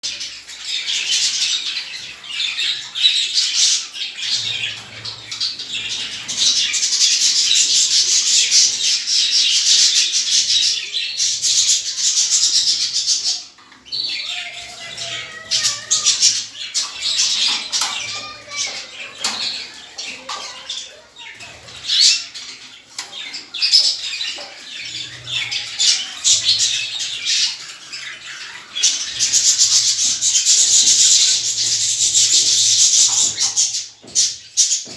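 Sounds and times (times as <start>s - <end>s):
cage birds chirping and squawking: 0.0s - 34.9s.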